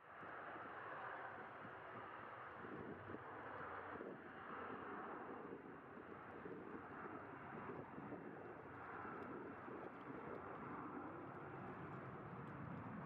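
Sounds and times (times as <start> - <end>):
jet airliner engines: 0.0 - 13.0.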